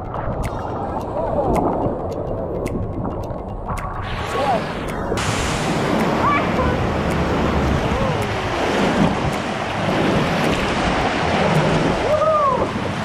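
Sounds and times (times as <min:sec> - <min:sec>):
rushing water: 0:00.0 - 0:13.0
wind: 0:00.0 - 0:13.0.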